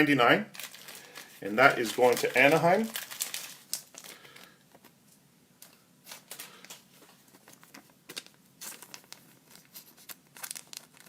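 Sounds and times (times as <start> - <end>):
cards and packaging rustling: 0.5 - 5.0, 5.6 - 11.0.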